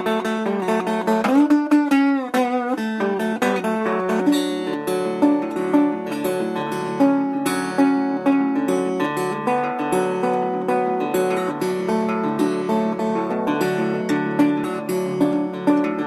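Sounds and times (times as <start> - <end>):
slide guitar playing: 0.0 - 16.0.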